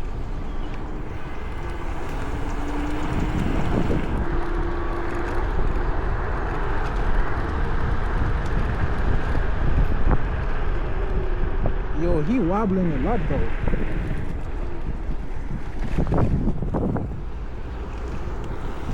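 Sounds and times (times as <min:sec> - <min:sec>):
electric motor whine: 0:00.0 - 0:18.9
low road rumble: 0:00.0 - 0:18.9
wind rush: 0:00.0 - 0:18.9.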